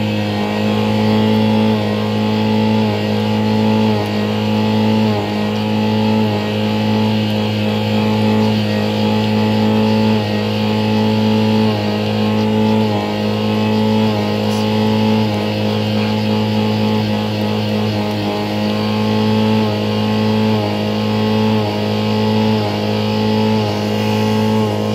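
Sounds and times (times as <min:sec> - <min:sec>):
car engine revving high: 0:00.0 - 0:24.9.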